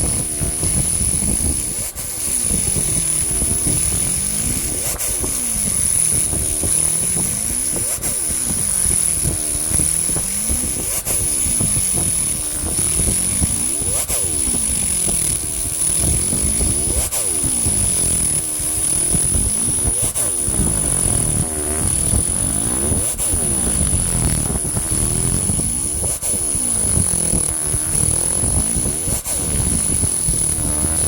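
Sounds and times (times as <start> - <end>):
laser cleaner whine and crackling buzz: 0.0 - 31.0.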